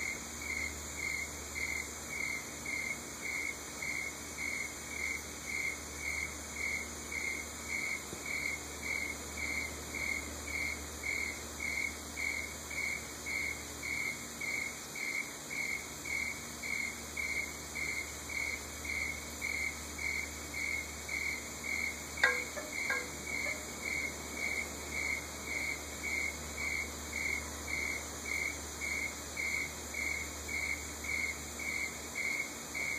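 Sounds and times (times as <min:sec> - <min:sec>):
cricket chirping: 0:00.0 - 0:32.9.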